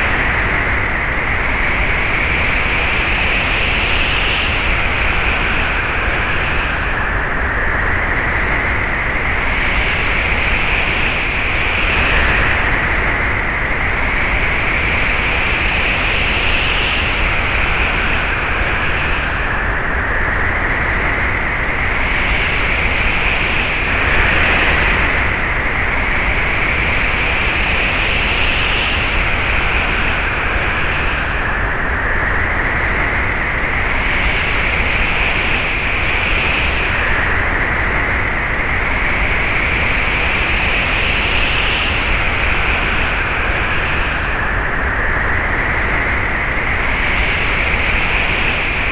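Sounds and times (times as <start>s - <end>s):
wind gusts rushing: 0.0s - 48.9s.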